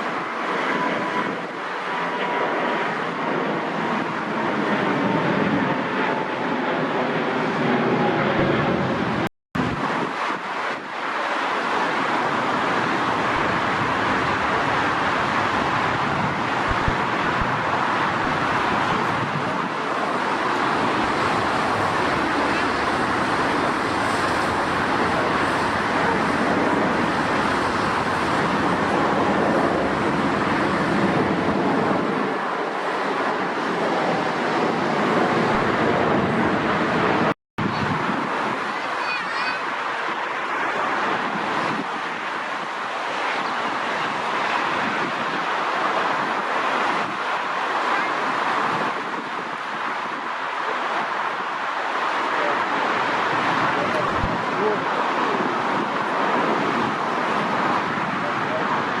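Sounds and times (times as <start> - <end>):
jet engine roar: 0.0 - 59.0.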